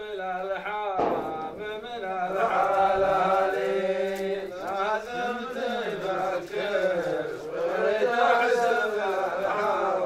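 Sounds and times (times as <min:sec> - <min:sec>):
men chanting folk poetry: 0:00.0 - 0:10.0.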